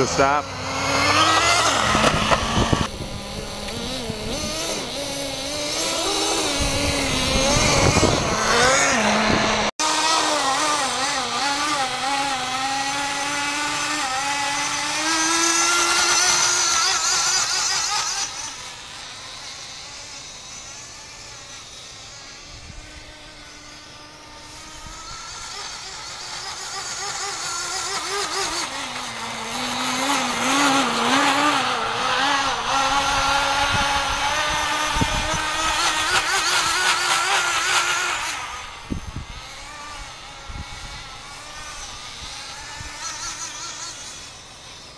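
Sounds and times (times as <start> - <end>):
small engine running at high revs: 0.0 - 44.9.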